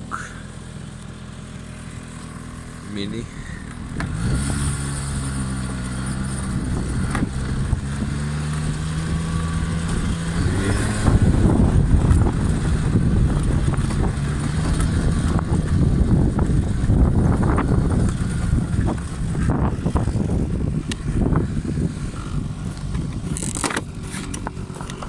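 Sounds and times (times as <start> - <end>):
scooter engine running: 0.0 - 25.0.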